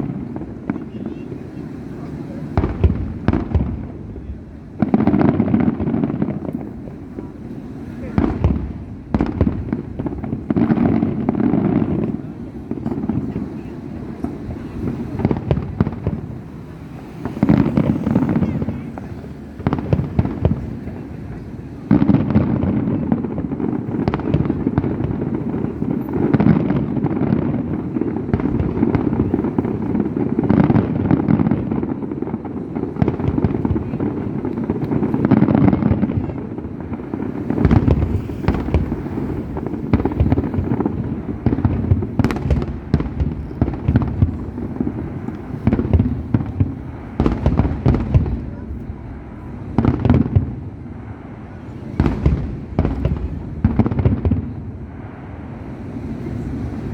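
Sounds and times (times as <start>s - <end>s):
fireworks bangs and crackling: 0.0s - 56.9s
sharp firework cracks: 0.0s - 56.9s.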